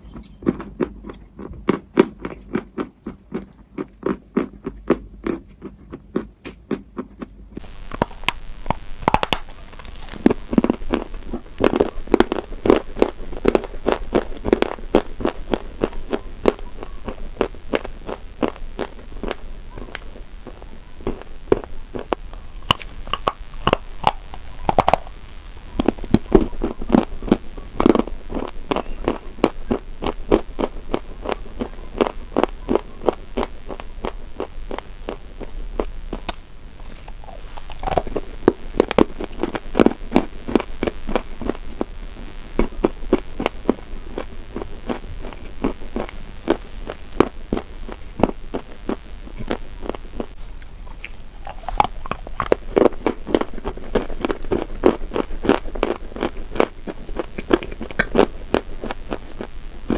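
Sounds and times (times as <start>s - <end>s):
crunching and chewing crisp food: 0.0s - 59.9s
steady background hiss: 7.5s - 59.9s.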